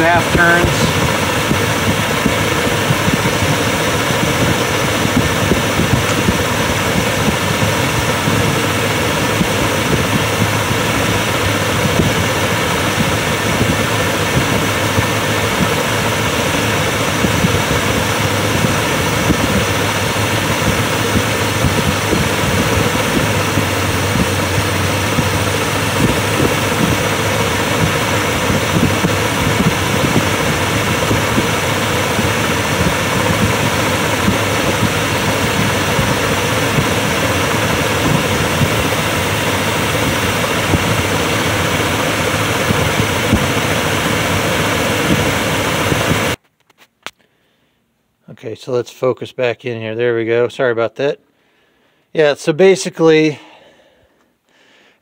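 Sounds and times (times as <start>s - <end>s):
car engine idling: 0.0s - 46.4s.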